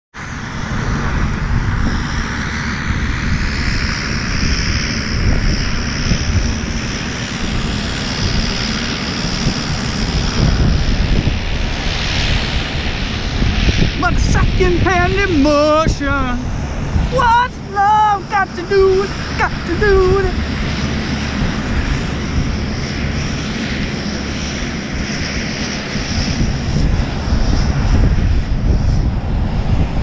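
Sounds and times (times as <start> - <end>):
propeller whine: 0.1 - 30.0
paramotor engine rumble: 0.3 - 30.0.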